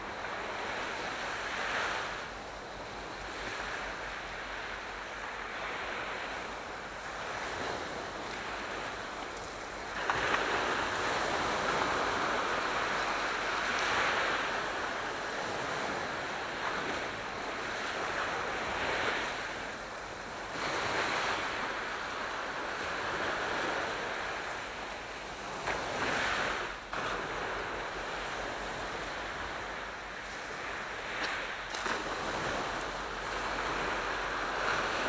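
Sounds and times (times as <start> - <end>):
waves washing in: 0.0 - 35.0.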